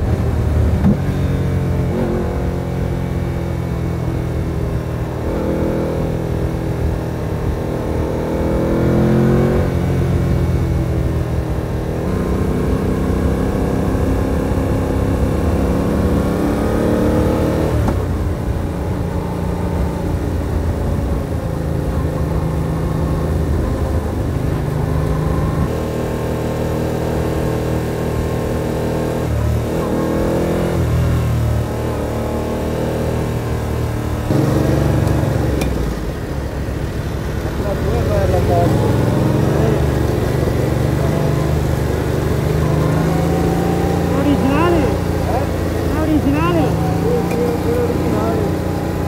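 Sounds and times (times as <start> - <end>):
motorcycle engine shifting gears: 0.0 - 49.0.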